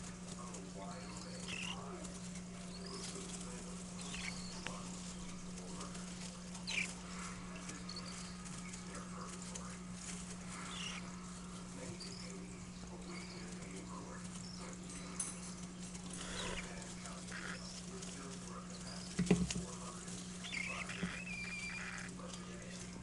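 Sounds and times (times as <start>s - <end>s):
bird chicks calling: 0.0s - 23.0s
steady low hum: 0.0s - 23.0s.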